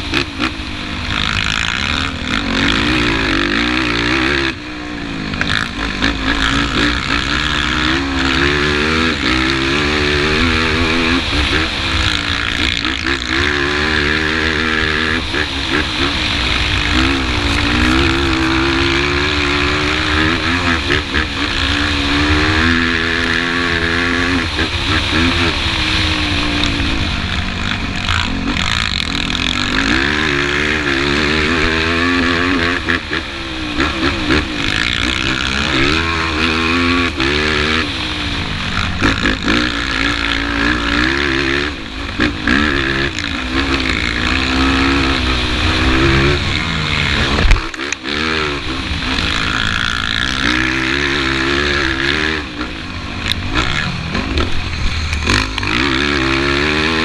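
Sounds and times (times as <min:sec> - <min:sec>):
quad engine accelerating and shifting: 0:00.0 - 0:57.0.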